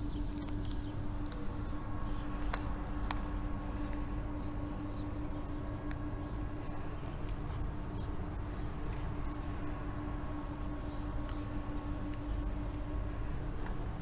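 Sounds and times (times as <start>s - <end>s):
constant hum: 0.0s - 14.0s
steady low rumble: 0.0s - 14.0s.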